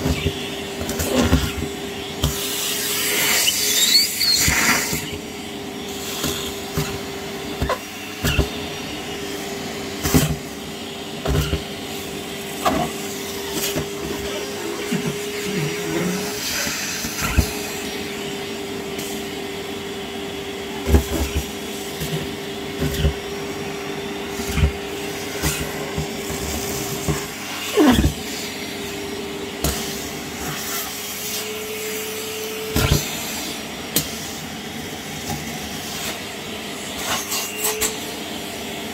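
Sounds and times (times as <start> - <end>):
wet dry vacuum whining: 0.0 - 38.9.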